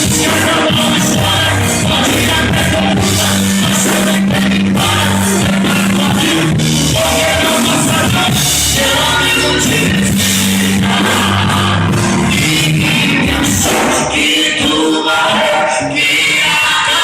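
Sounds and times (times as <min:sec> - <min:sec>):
loud rock band music: 0:00.0 - 0:17.0
person singing: 0:00.0 - 0:17.0.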